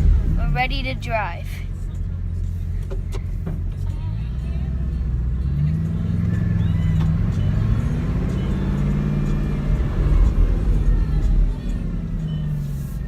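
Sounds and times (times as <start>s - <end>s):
car engine driving off: 0.0s - 13.0s.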